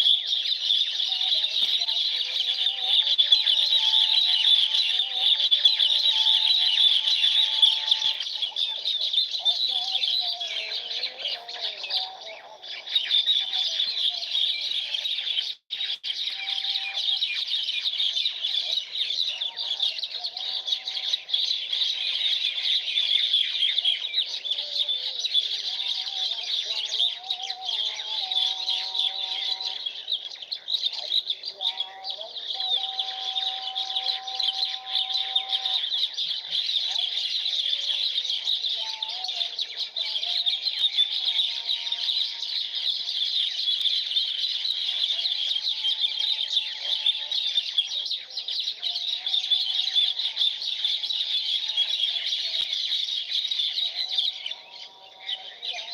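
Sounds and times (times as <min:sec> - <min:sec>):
small birds chirping: 0:00.0 - 0:55.9
whistled bird calls: 0:00.0 - 0:55.9.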